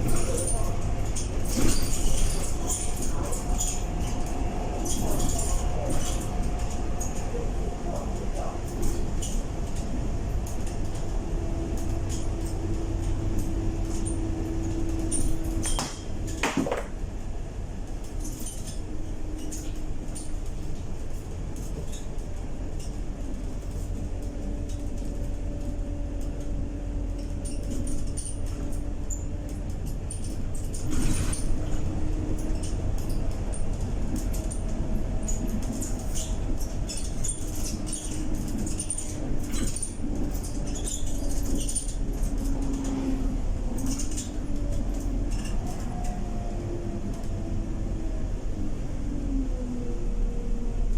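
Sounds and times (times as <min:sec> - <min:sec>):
bus engine drone: 0:00.0 - 0:50.9.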